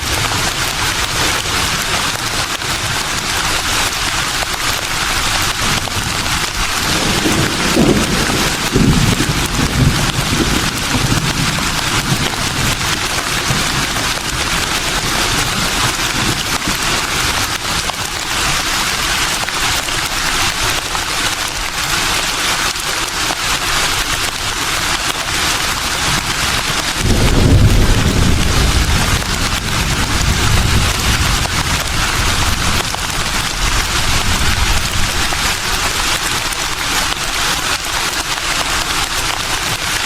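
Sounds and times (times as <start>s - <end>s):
leaves rustling in wind: 0.0s - 40.0s.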